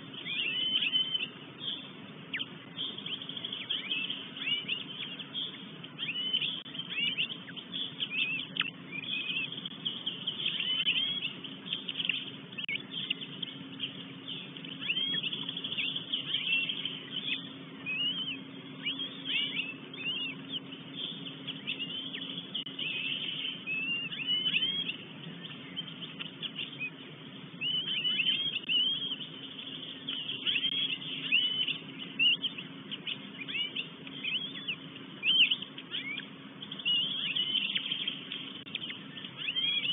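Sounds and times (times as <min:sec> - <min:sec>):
birds chirping and whistling: 0:00.0 - 0:39.9
faint steady hum: 0:00.0 - 0:39.9.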